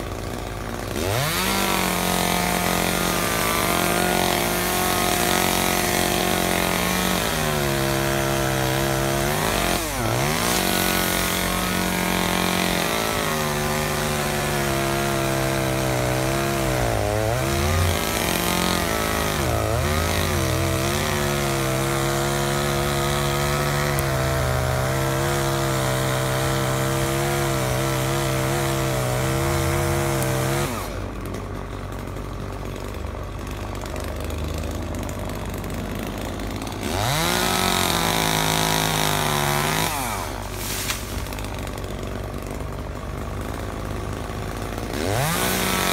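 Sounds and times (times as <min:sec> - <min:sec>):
chainsaw cutting branches: 0:00.0 - 0:45.9.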